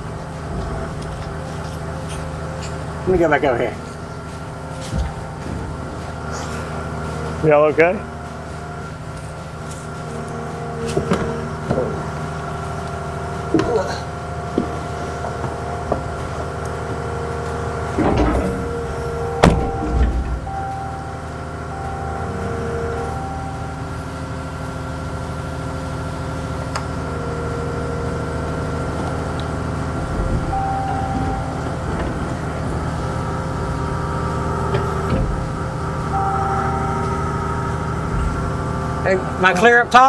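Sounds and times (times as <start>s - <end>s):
excavator diesel engine running: 0.0s - 40.0s
hydraulic whine: 0.0s - 40.0s.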